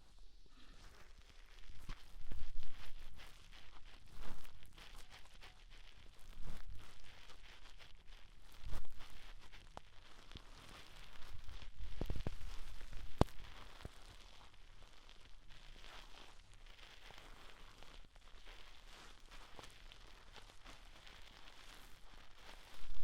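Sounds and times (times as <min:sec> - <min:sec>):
ear cleaning scratching and rustling: 0:00.6 - 0:23.0.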